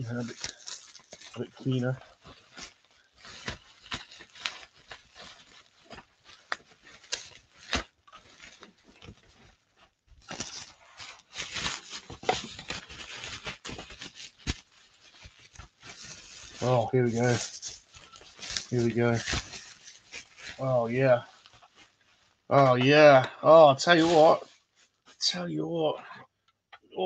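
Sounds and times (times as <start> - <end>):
bubble wrap crinkling: 0.0 - 25.2.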